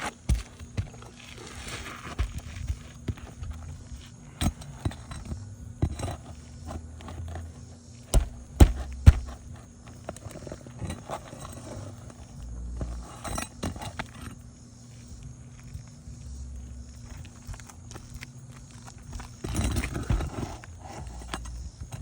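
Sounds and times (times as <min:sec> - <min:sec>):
metal scraping on shingles: 0:00.0 - 0:22.0.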